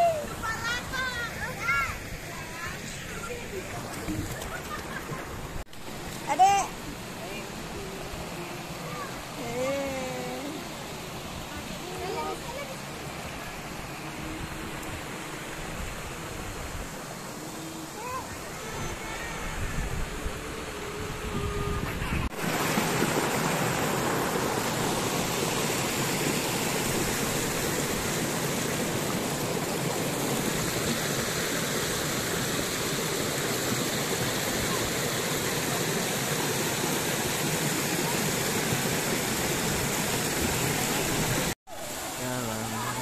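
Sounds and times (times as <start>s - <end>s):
waterfall rushing water: 0.0s - 43.0s.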